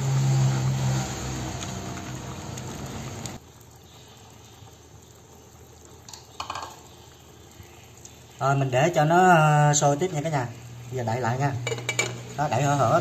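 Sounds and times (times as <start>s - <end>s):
pot boiling with bubbling hiss: 0.0s - 13.0s.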